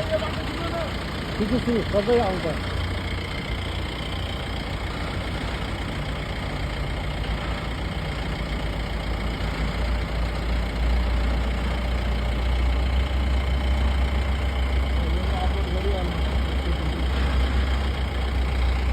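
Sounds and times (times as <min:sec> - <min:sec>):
engine rumbling: 0:00.0 - 0:18.9.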